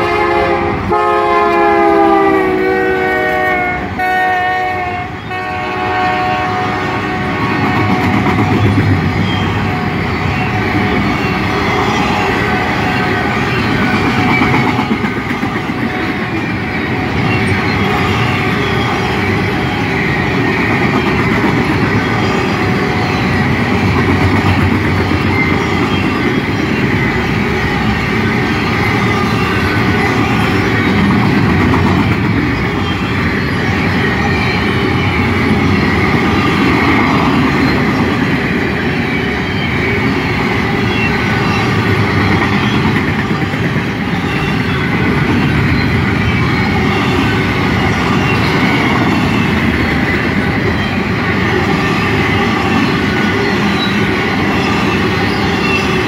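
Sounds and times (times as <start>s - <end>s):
high wheel squeal: 7.4s - 56.0s.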